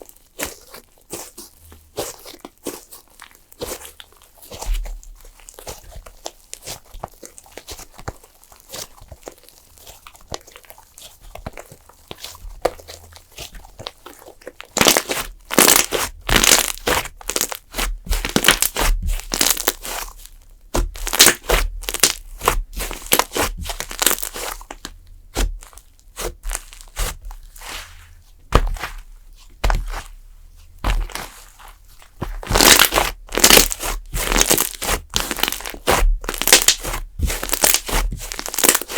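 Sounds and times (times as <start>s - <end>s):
clay slime squeezed by hand: 0.1s - 38.9s.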